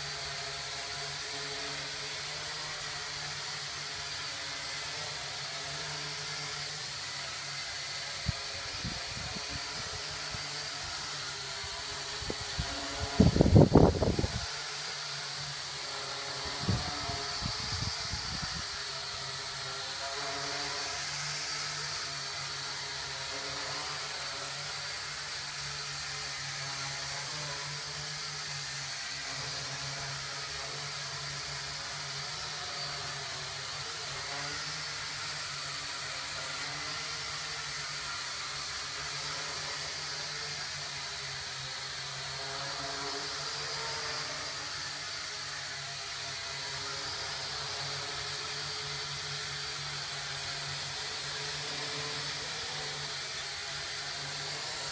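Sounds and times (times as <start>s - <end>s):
quadcopter propellers whirring: 0.0s - 54.9s.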